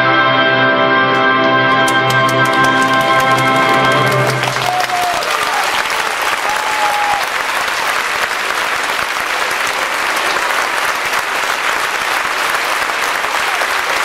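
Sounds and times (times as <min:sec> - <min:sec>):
audience applauding: 0:01.7 - 0:14.0.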